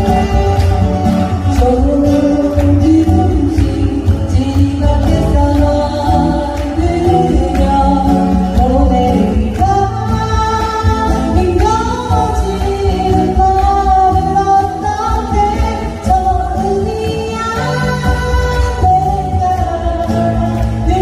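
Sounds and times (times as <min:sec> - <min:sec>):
acoustic guitars: 0:00.0 - 0:21.0
woman singing a pop ballad: 0:00.0 - 0:21.0.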